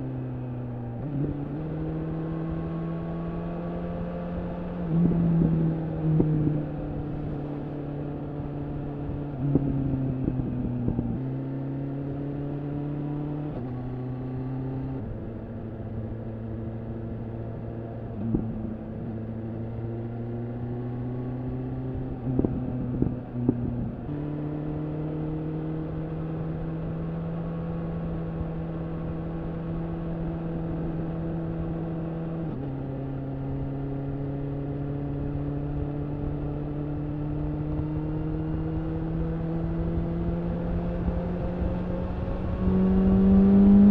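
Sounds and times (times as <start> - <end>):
motorcycle exhaust cruising: 0.0 - 43.9.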